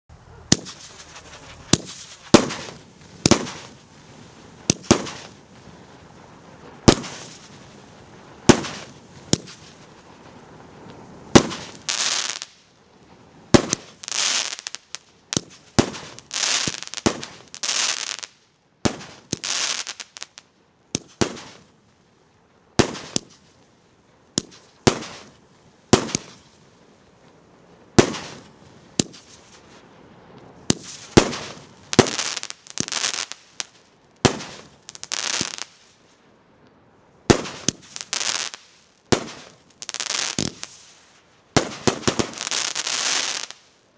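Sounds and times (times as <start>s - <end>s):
fireworks bangs: 0.1s - 12.6s, 13.5s - 20.4s, 21.0s - 21.7s, 22.8s - 23.5s, 24.4s - 26.6s, 27.9s - 35.8s, 37.3s - 43.7s
fireworks crackle: 0.1s - 43.9s.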